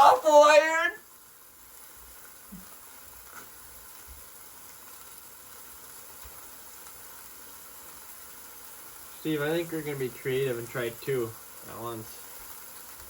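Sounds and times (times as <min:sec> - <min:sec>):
burgers sizzling on grill: 0:00.0 - 0:13.0.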